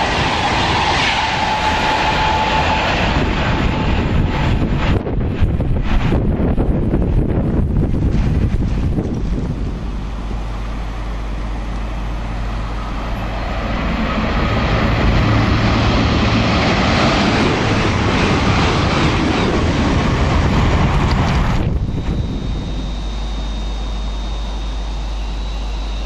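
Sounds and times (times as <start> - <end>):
train wheels rushing on rail: 0.0 - 22.6
low train engine hum: 0.0 - 26.0.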